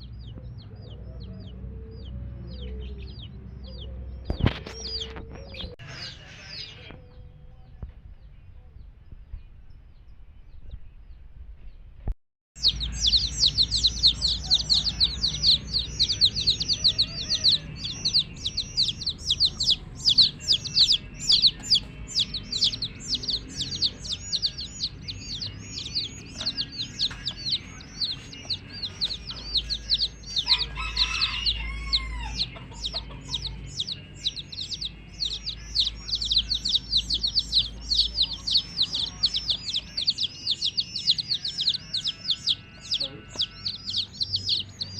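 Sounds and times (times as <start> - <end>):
baby chicks peeping: 0.0 - 44.9.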